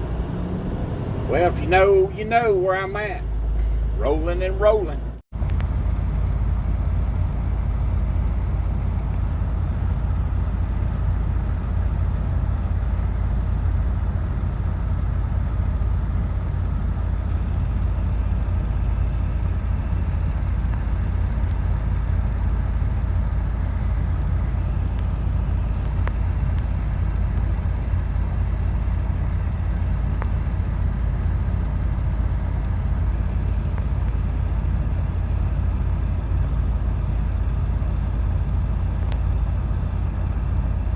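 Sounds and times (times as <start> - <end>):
road noise: 0.0 - 40.9
truck diesel engine rumble: 0.0 - 40.9.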